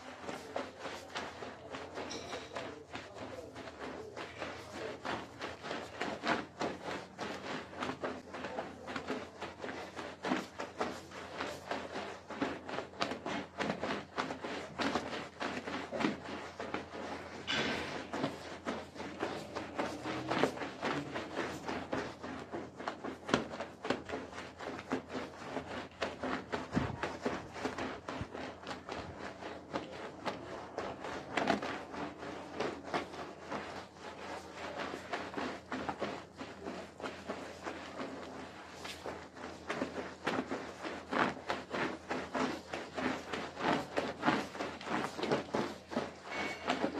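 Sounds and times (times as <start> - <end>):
broom scrubbing wet rug: 0.0 - 46.9.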